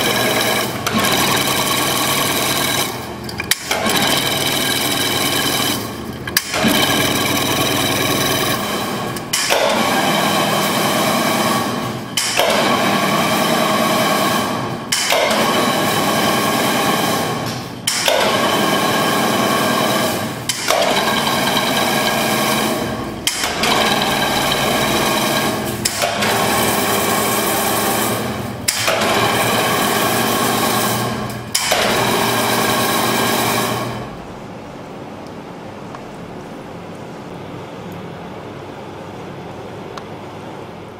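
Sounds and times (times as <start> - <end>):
machine mechanical whir: 0.0 - 34.6.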